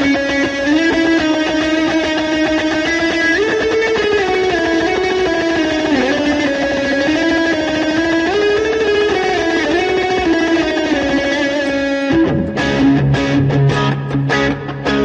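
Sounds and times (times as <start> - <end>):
repeated plucked notes: 0.0 - 15.0
sliding guitar tones: 0.0 - 15.0.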